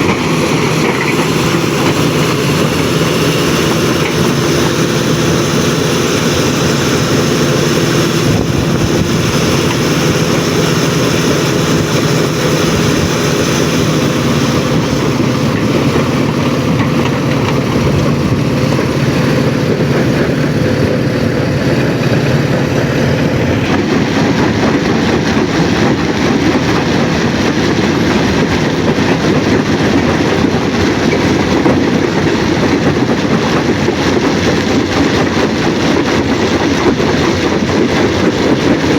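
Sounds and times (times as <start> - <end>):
heavy machinery rumbling: 0.0 - 38.9.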